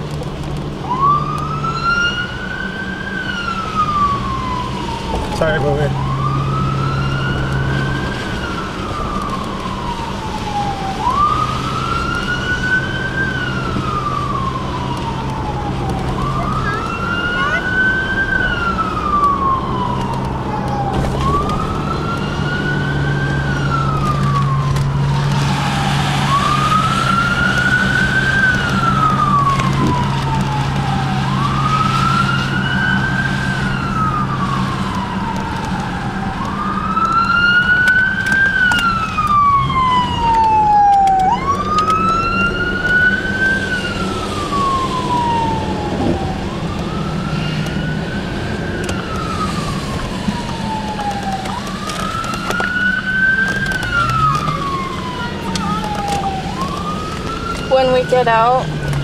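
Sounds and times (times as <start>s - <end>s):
police siren wailing: 0.0s - 59.0s.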